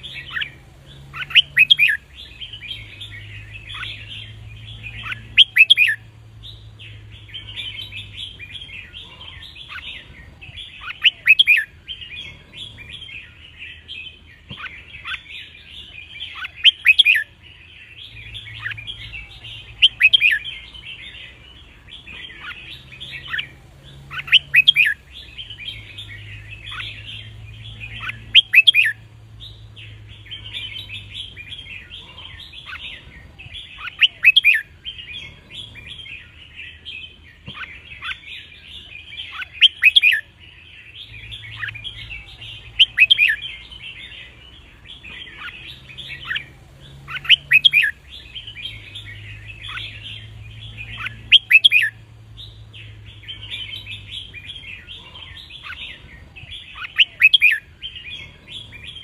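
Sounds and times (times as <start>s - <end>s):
birds chattering chirps: 0.0s - 59.0s
loud bird song phrase: 0.0s - 59.0s.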